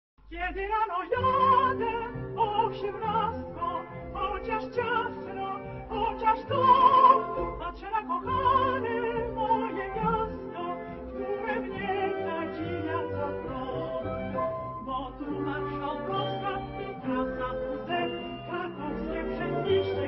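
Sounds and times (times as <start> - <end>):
musical accompaniment: 0.3 - 20.0
operatic singing voice: 0.3 - 20.0.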